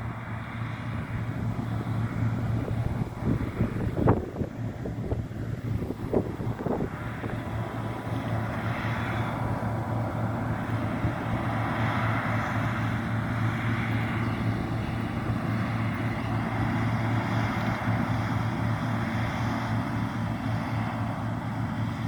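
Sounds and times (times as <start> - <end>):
combine harvester engine hum: 0.0 - 22.0.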